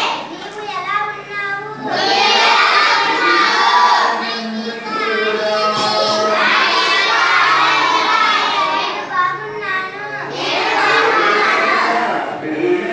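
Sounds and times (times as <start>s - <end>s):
children chanting in unison: 0.0s - 0.4s, 1.8s - 12.9s.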